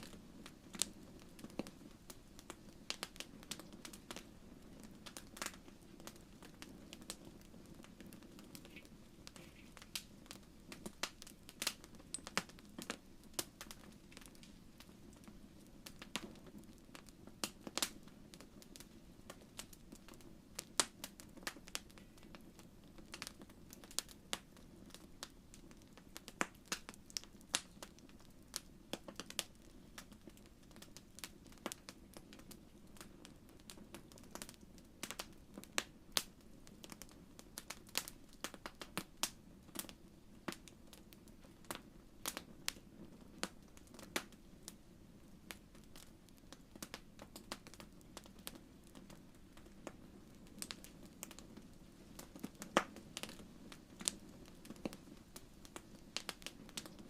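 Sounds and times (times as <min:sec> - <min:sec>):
low hiss of burning: 0:00.0 - 0:57.0
wood fire crackling: 0:00.0 - 0:57.0.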